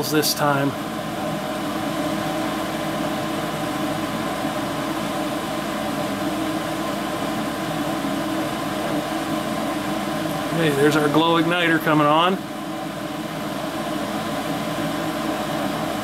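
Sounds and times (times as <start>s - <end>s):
furnace inducer motor humming: 0.0s - 16.0s.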